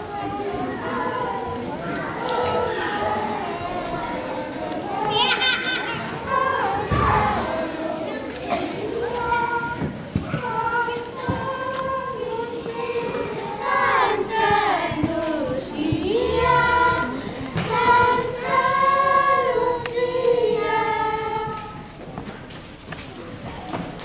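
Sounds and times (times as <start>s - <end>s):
girls choir singing: 0.0s - 22.2s.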